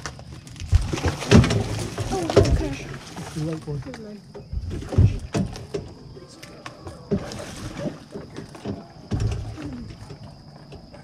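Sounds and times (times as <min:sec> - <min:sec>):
knocks and thumps against boat: 0:00.0 - 0:11.0
water splashing: 0:00.0 - 0:11.0.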